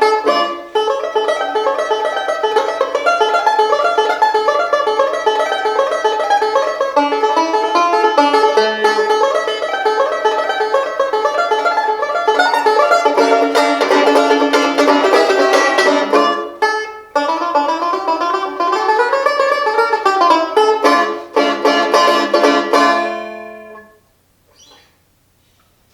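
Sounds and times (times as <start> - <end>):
banjo playing plucked notes: 0.0 - 24.0.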